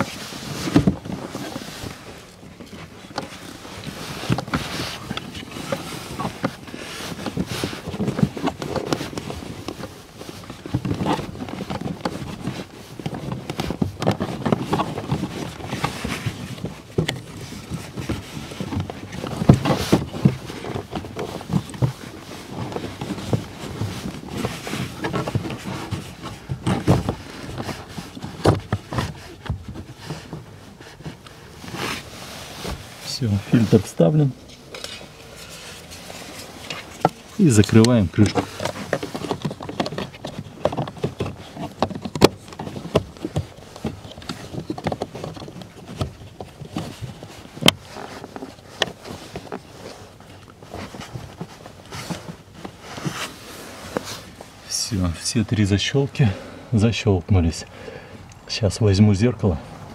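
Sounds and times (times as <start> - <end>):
rustling and scraping of filter: 0.0 - 59.9.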